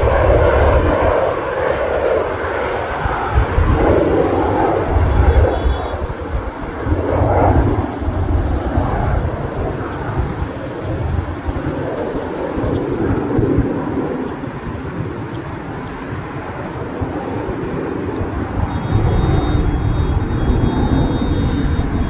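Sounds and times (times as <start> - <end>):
jet engines roaring on takeoff: 0.0 - 22.0.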